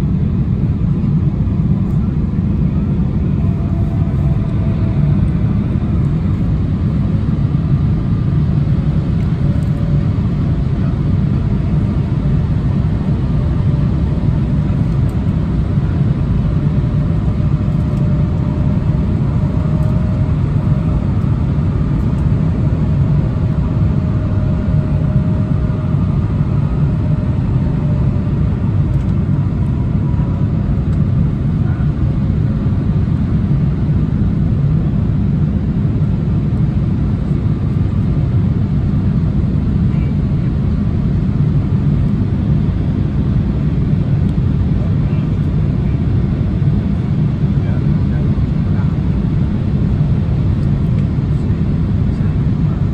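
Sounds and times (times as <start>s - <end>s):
faint engine whine: 0.0s - 52.9s
jet cabin rumble: 0.0s - 52.9s.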